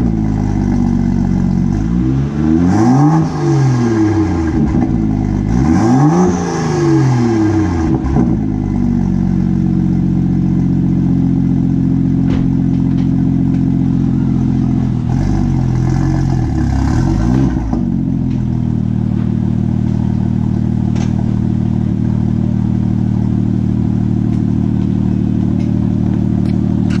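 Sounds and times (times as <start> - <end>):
car engine idling with throttle blip: 0.0 - 27.0.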